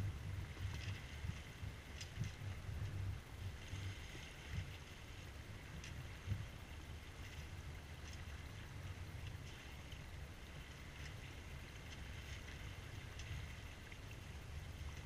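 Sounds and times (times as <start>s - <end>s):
wind buffeting microphone: 0.0s - 13.7s
water rushing along hull: 0.0s - 15.0s.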